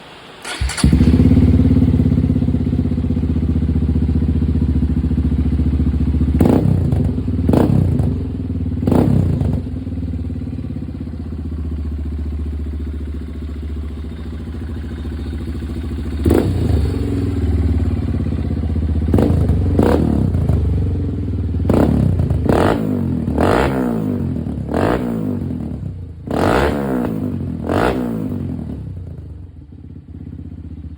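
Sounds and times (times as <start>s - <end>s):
motorcycle engine revving: 0.4s - 30.9s.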